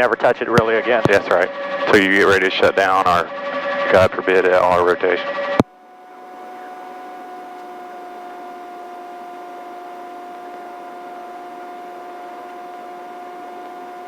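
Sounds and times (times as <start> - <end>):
helicopter cabin noise: 0.0 - 14.0.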